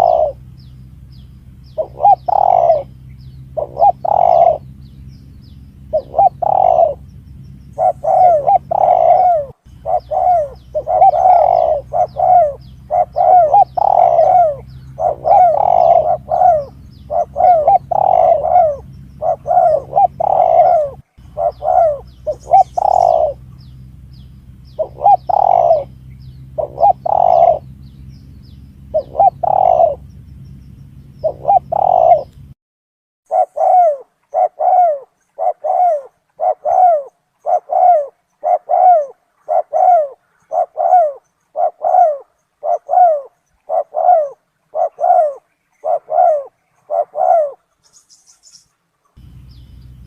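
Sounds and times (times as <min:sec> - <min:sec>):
doves cooing: 0:00.0 - 0:32.5, 0:33.3 - 0:50.0
small birds chirping: 0:00.0 - 0:32.5, 0:33.3 - 0:50.0
low steady hum: 0:00.0 - 0:32.6, 0:33.3 - 0:50.0.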